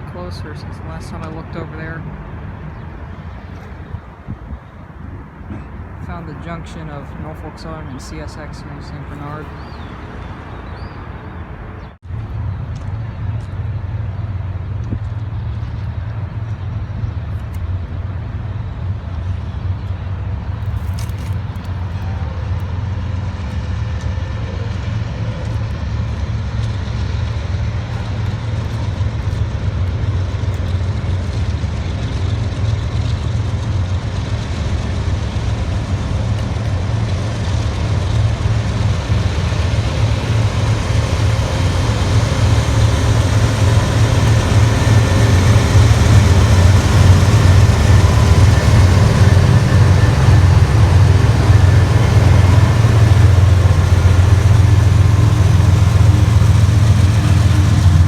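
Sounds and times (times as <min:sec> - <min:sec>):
heavy vehicle rumbling: 0:00.0 - 0:58.0.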